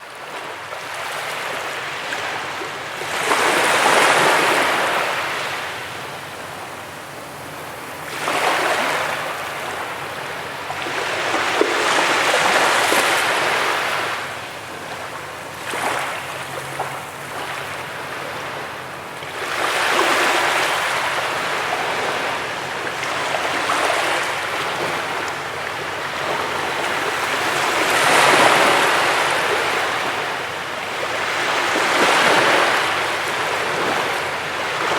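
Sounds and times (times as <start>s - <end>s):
ocean waves breaking on beach: 0.0s - 34.9s.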